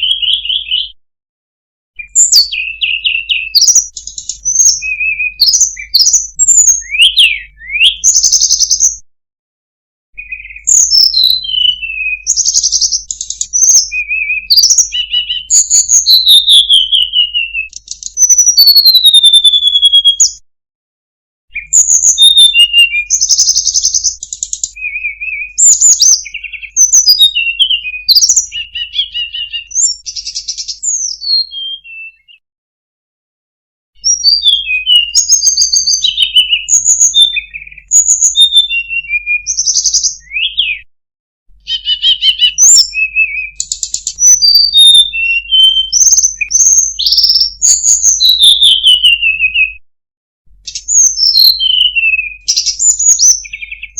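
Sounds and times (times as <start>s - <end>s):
bird singing whistles and trills: 0.0s - 1.0s, 2.0s - 9.0s, 10.2s - 20.4s, 21.5s - 32.4s, 34.0s - 40.9s, 41.6s - 49.8s, 50.6s - 53.9s.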